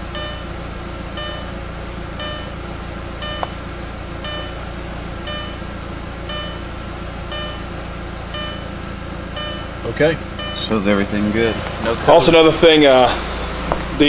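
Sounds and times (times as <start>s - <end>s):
dashboard warning chime: 0.0s - 12.3s
car engine idling: 0.0s - 14.0s.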